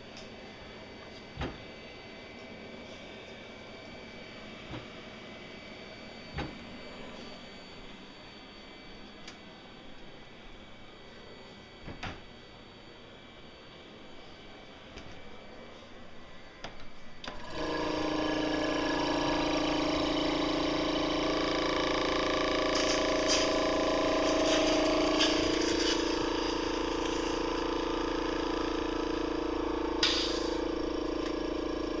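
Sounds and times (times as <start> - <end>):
machine blower humming: 0.0 - 32.0.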